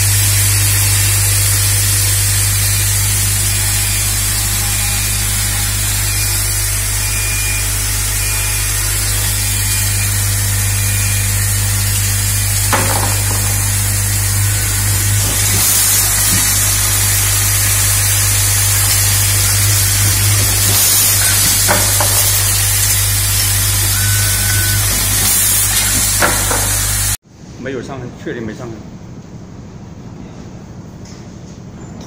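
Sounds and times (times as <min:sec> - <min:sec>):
machine humming and hissing: 0:00.0 - 0:27.2.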